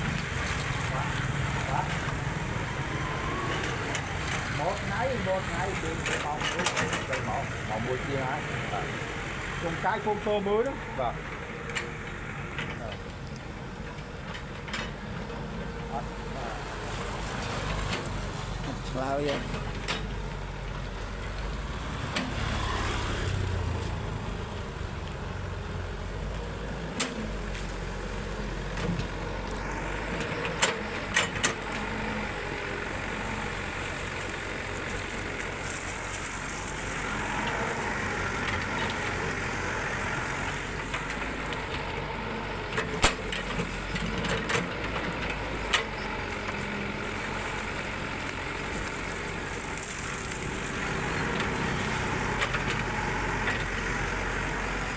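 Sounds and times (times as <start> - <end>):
excavator engine running: 0.0 - 54.9.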